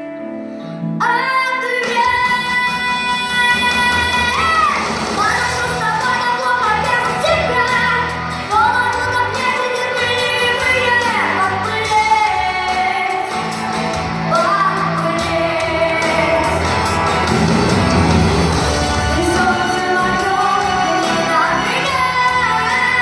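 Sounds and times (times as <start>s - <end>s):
backing track music: 0.0s - 23.0s
woman singing pop song: 1.0s - 17.0s, 19.1s - 23.0s.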